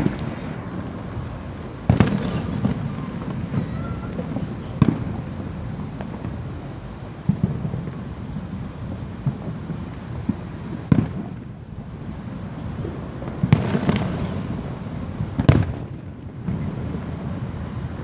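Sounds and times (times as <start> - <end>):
fireworks bangs: 0.0 - 18.0
fireworks crackle: 0.0 - 18.0.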